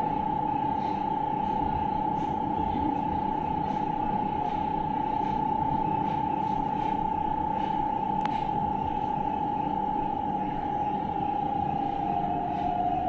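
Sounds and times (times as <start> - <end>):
steady high-pitched hum: 0.0 - 13.0.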